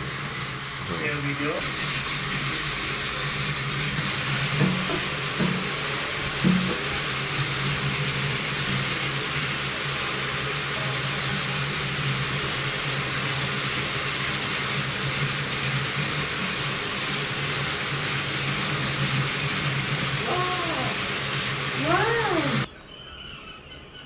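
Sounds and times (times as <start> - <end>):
toy trains running on plastic track: 0.0 - 22.7.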